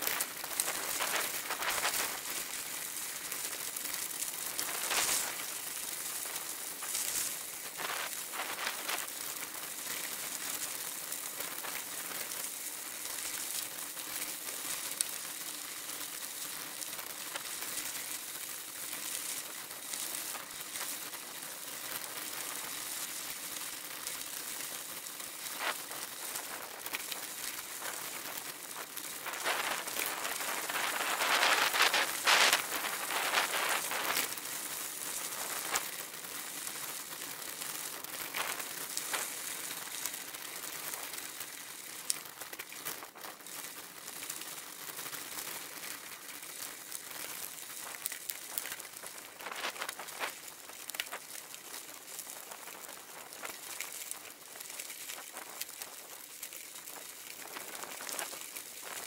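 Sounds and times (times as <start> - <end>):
bicycle jolts over bumps: 0.0 - 59.0
bicycle tyres on gravel: 0.0 - 59.0.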